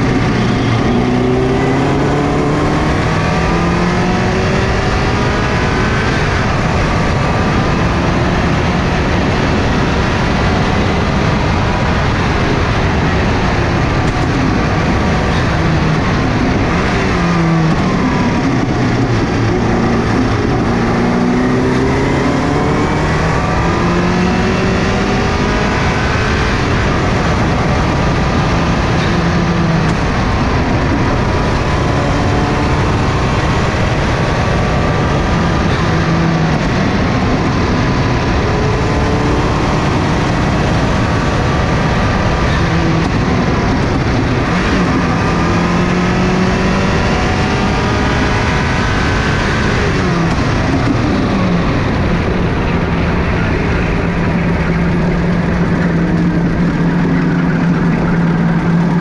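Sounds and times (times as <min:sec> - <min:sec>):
car engine accelerating hard: 0:00.0 - 0:59.0
road and wind noise: 0:00.0 - 0:59.0.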